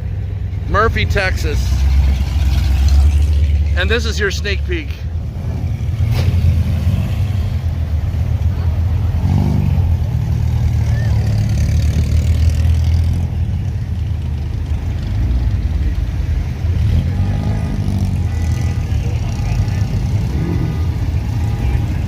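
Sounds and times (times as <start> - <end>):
car engines rumbling: 0.0 - 22.0.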